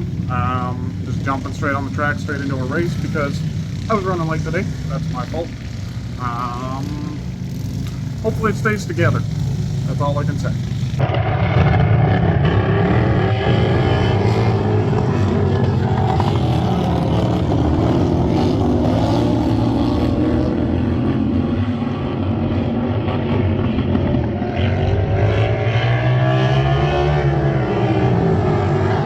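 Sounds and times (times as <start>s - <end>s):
lawn tractor engines revving: 0.0s - 29.0s.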